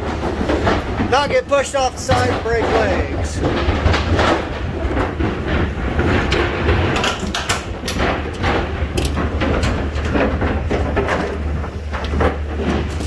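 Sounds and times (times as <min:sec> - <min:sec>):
cattle hooves clattering: 0:00.0 - 0:13.0.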